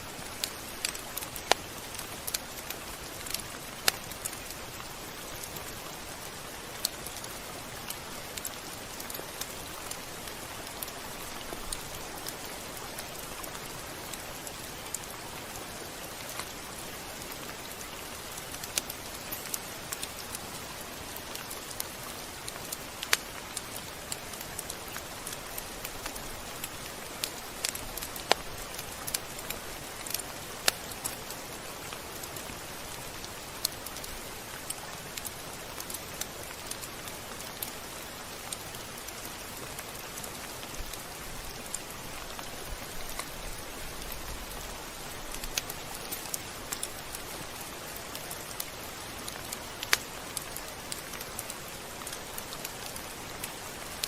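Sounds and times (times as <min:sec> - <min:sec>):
raindrops ticking on surface: 0:00.0 - 0:54.0
steady rain hiss: 0:00.0 - 0:54.0.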